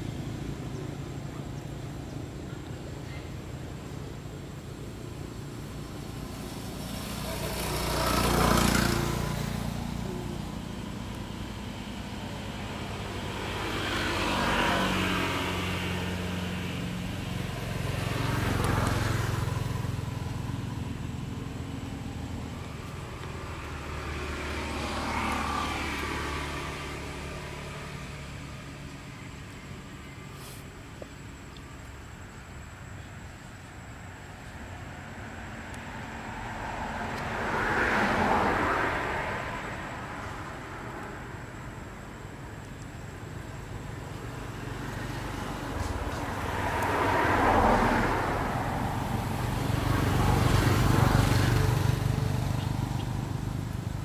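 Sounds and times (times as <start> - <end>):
vehicles driving past: 0.0 - 54.0.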